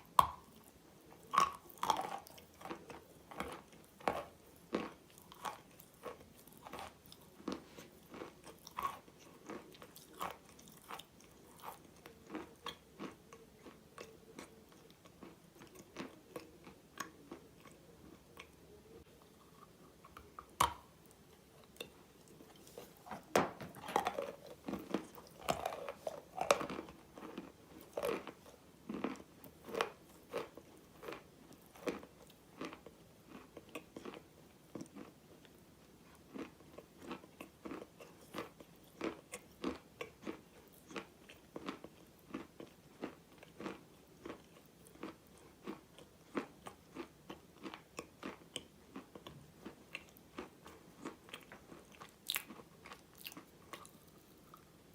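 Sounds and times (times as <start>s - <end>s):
biting and chewing crunches: 0.1s - 17.7s, 21.6s - 54.7s.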